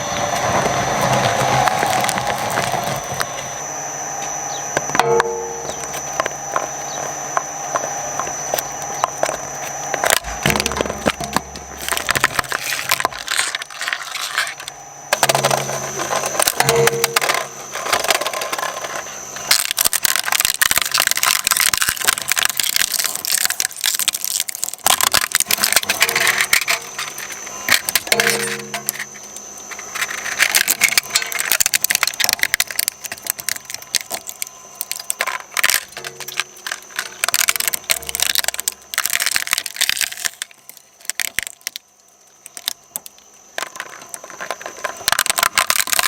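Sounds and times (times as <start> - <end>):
shredder humming: 0.0 - 41.8
hard objects crunching: 0.0 - 46.0.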